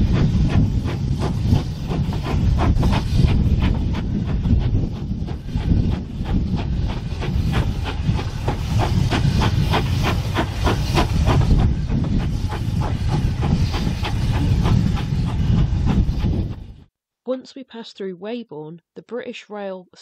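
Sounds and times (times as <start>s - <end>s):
steam locomotive exhaust chuffing: 0.0s - 16.9s.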